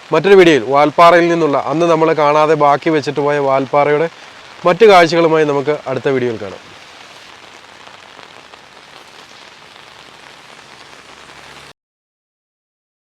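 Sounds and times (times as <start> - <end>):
steady rain falling: 0.0 - 11.8.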